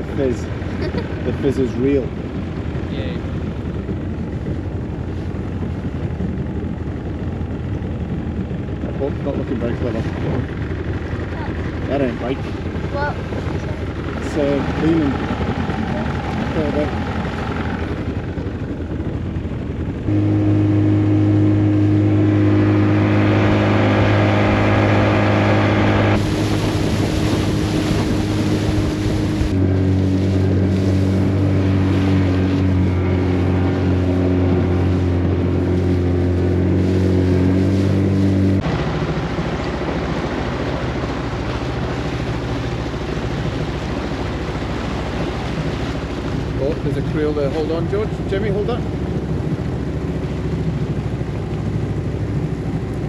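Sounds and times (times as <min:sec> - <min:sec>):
motorboat engine droning: 0:00.0 - 0:53.0
water noise: 0:00.0 - 0:53.0
wind on microphone: 0:00.0 - 0:53.0.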